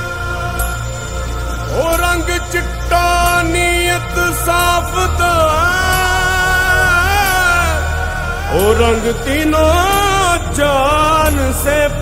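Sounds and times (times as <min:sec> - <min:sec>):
instrumental chords over bass: 0:00.0 - 0:12.0
patriotic song: 0:00.0 - 0:12.0
person singing: 0:00.0 - 0:12.0.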